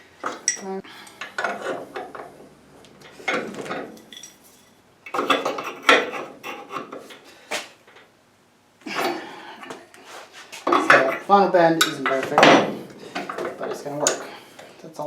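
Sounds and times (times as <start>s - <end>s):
metal clanking and scraping: 0.2s - 8.0s, 8.9s - 14.5s.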